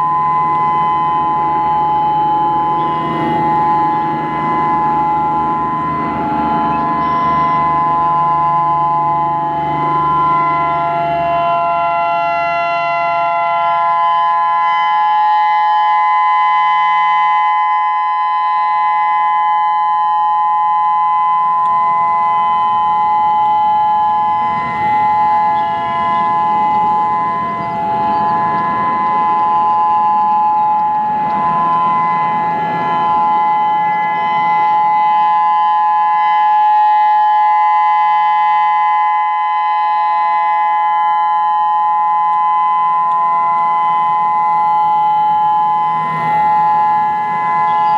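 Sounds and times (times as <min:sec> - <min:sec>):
siren alert chord: 0:00.0 - 0:47.9.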